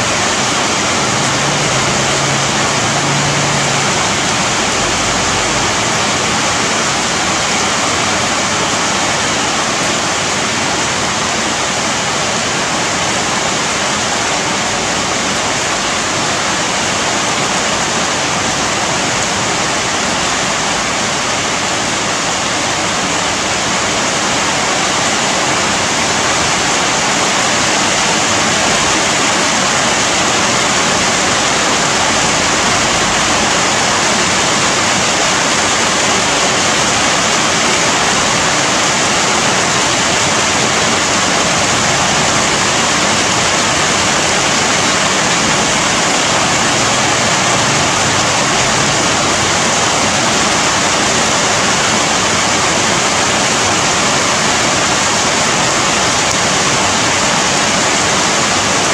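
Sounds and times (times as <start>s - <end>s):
heavy rain on trees: 0.0s - 58.9s.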